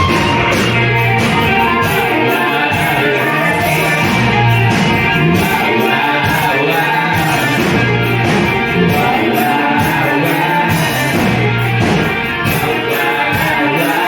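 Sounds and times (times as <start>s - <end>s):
rock music with guitar and drums: 0.0s - 14.0s.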